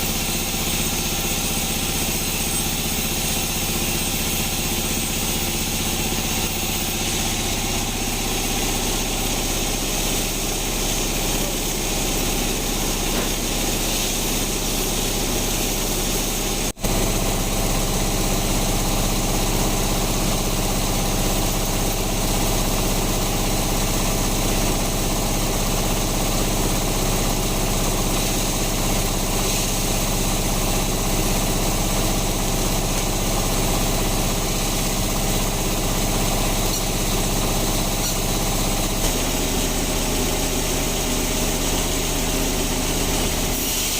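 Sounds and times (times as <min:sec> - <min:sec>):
sawmill motor hum: 0:00.0 - 0:43.9.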